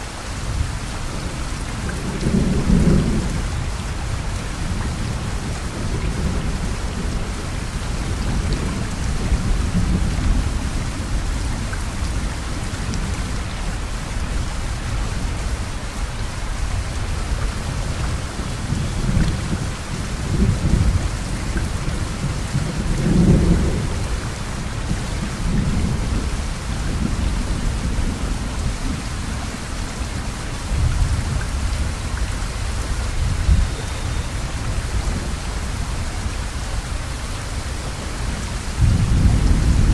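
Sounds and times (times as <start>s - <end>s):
heavy rain pouring: 0.0s - 39.9s
low rumbles of thunder: 0.4s - 15.9s, 16.6s - 39.9s.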